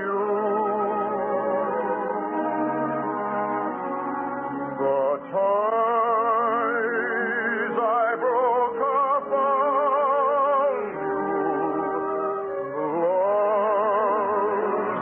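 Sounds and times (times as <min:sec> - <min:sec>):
orchestral accompaniment: 0:00.0 - 0:15.0.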